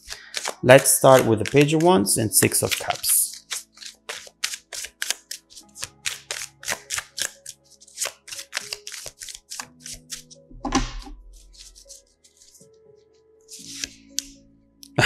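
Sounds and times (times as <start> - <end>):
cards being shuffled: 0.0 - 12.7, 13.5 - 14.4
soft background music: 0.0 - 15.0.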